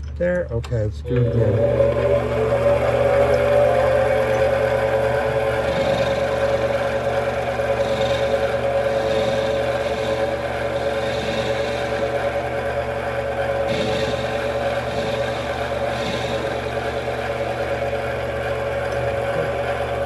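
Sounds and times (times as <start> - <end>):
metal lathe motor whine: 1.0 - 20.0.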